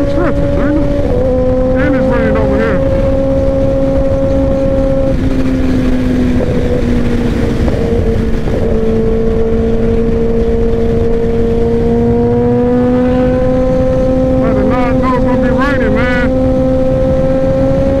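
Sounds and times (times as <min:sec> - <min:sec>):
motorcycle engine running: 0:00.0 - 0:18.0
wind on microphone: 0:00.0 - 0:18.0.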